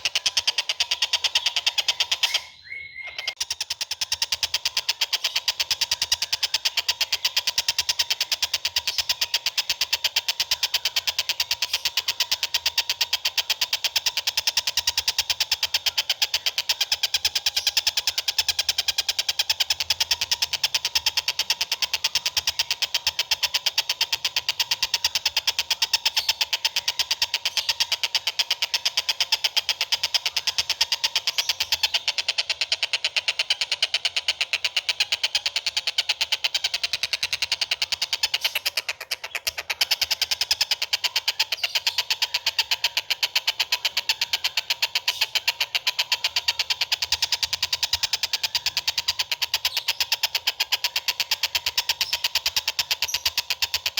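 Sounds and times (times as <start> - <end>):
songbird chattering: 0.0 - 53.9.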